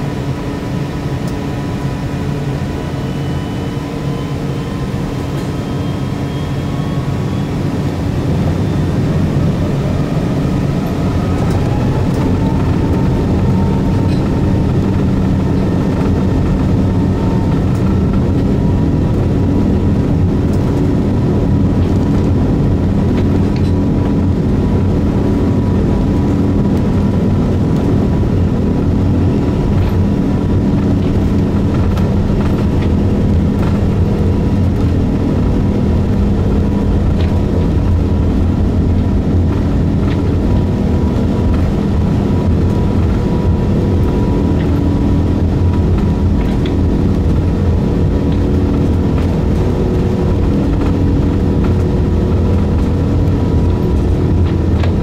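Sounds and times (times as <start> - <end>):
jet engines droning in cabin: 0.0 - 55.0.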